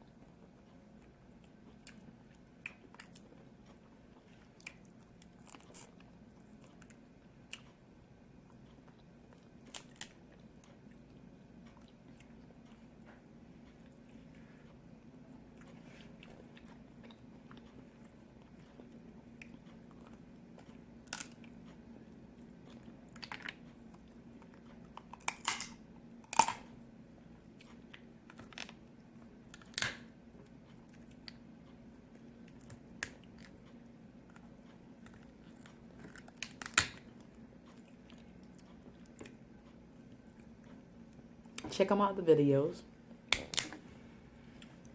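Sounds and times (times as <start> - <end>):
person chewing: 0.1 - 7.8, 8.4 - 26.8, 27.4 - 41.6.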